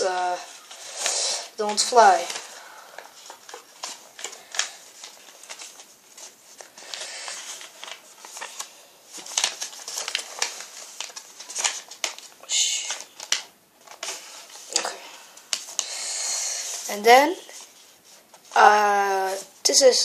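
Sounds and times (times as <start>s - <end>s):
paper being folded: 0.1s - 19.4s.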